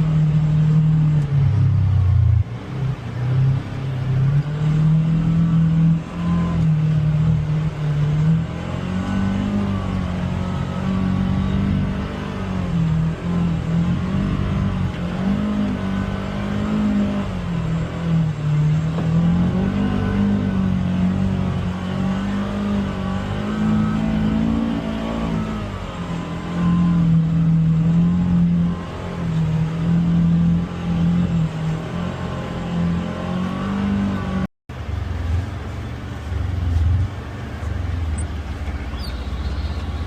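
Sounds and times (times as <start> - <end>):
utility vehicle engine revving: 0.0 - 40.0.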